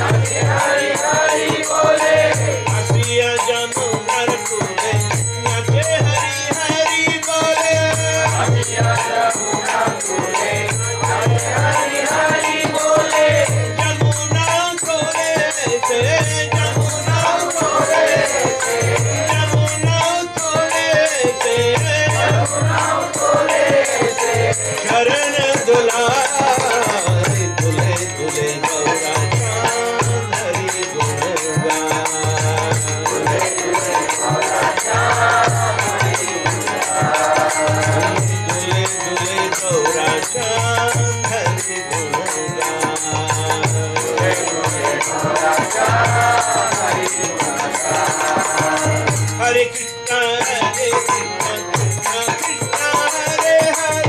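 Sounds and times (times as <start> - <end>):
group of voices singing: 0.0 - 5.1, 6.0 - 49.6
jingling rhythmic percussion: 0.0 - 54.0
man singing lead: 0.0 - 54.0.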